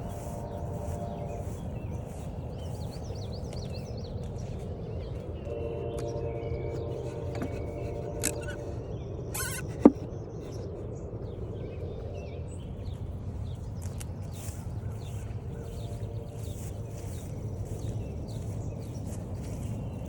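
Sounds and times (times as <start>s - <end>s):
birds chirping: 0.0s - 20.0s
low outdoor background: 0.0s - 20.0s.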